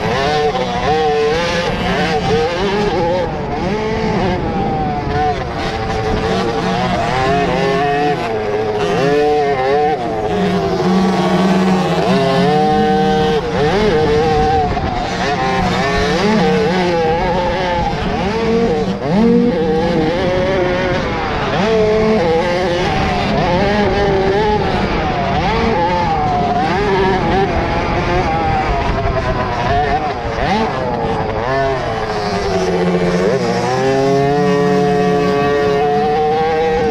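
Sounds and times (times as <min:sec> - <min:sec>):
motocross bike engines racing: 0:00.0 - 0:36.9.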